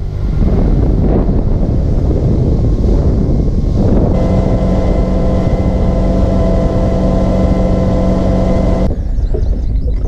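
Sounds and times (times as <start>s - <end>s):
wind and water rushing: 0.0s - 9.5s
boat engine drone: 0.0s - 9.6s.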